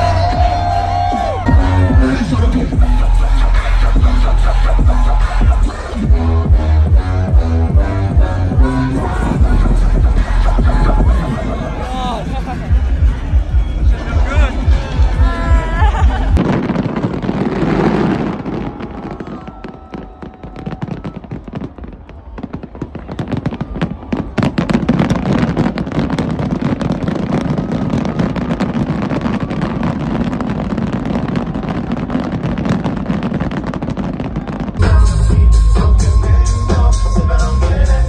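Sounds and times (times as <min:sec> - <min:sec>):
fireworks crackling and popping: 0:00.0 - 0:06.4, 0:07.4 - 0:35.2.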